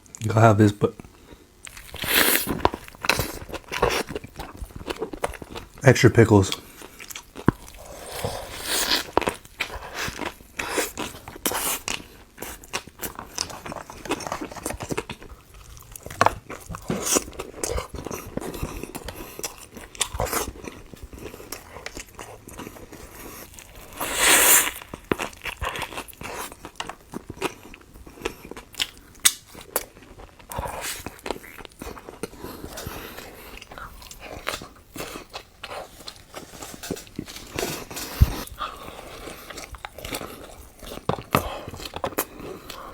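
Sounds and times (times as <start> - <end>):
crunchy bites and chewing: 1.6 - 5.8, 6.4 - 42.9.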